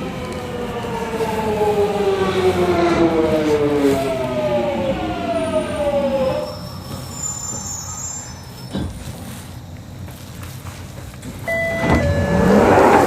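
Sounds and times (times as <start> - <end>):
train motors whining: 0.0 - 13.0.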